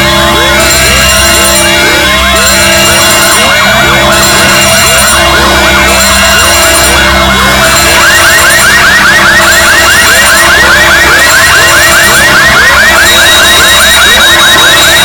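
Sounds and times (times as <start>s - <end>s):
electronic siren wails: 0.0s - 15.0s.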